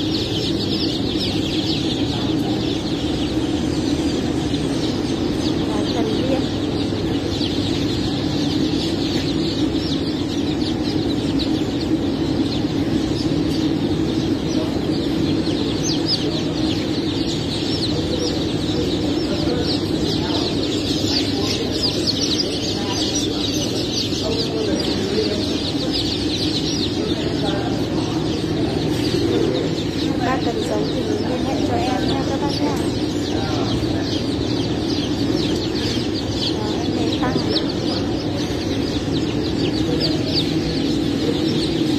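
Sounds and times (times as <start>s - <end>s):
chicks peeping: 0.0s - 41.9s
steady low hum: 0.0s - 41.9s.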